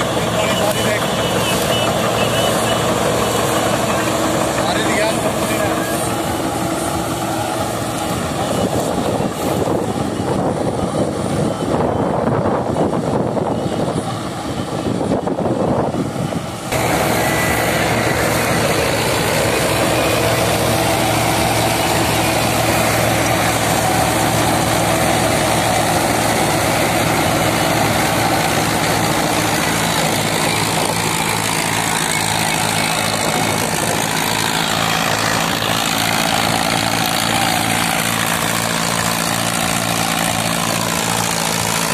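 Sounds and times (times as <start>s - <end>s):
straw reaper machine racket: 0.0s - 10.0s, 16.5s - 41.9s
tractor diesel engine running: 0.0s - 41.9s.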